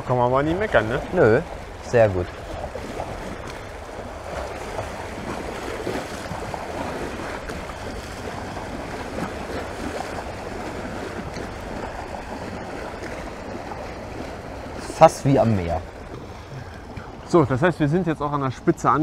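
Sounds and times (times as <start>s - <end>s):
small waves lapping on rocks: 0.0s - 19.0s.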